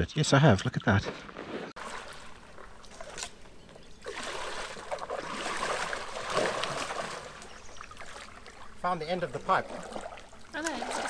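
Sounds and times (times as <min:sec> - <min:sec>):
water splashing and trickling: 0:00.5 - 0:11.0.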